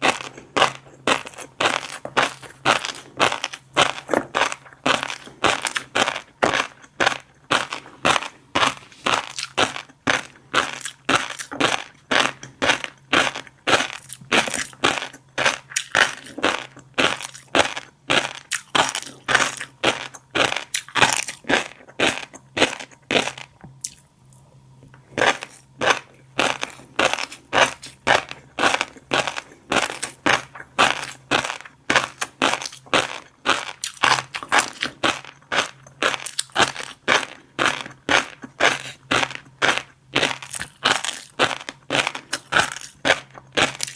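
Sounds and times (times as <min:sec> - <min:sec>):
chewing with crisp crunching: 0:00.0 - 0:43.9.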